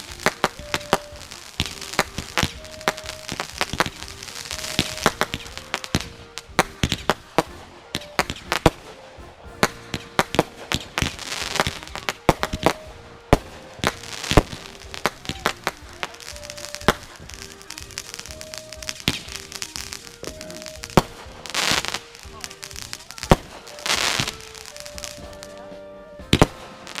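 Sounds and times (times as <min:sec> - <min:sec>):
fireworks banging and crackling: 0:00.0 - 0:27.0
music with stepping melody: 0:00.0 - 0:27.0.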